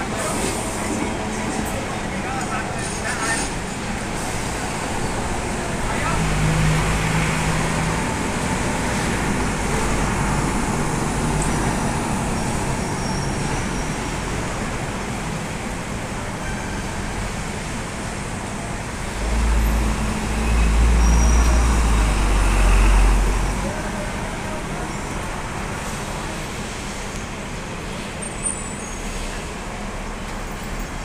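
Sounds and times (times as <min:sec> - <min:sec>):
bus driving past: 0:00.0 - 0:31.0
street traffic: 0:00.0 - 0:31.0.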